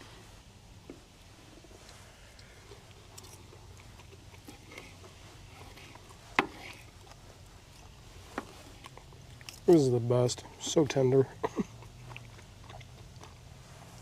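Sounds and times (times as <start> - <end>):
eating and handling sounds: 0.0 - 14.0
steady low hum: 0.0 - 14.0.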